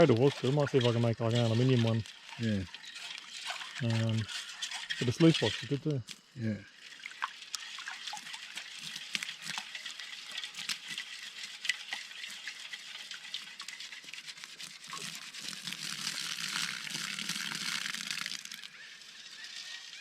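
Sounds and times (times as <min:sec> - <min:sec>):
water sloshing: 0:00.0 - 0:19.8
gravel rattling in a pan: 0:00.0 - 0:20.0.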